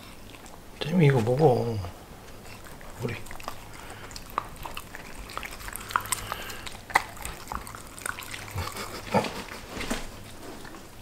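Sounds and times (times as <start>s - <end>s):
dogs chewing and licking: 0.0s - 11.0s.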